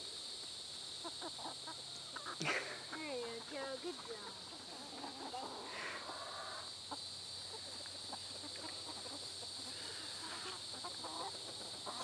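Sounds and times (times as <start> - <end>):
hens clucking: 0.8 - 12.0.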